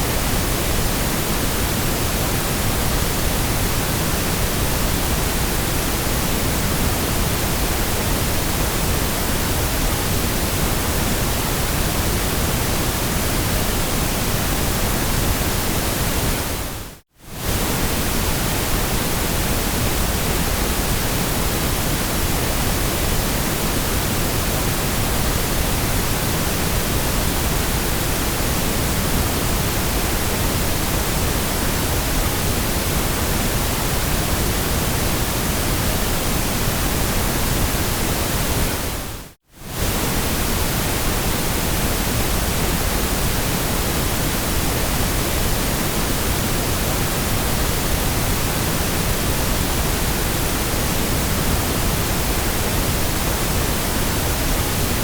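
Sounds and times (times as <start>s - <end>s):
white noise: 0.0s - 55.0s.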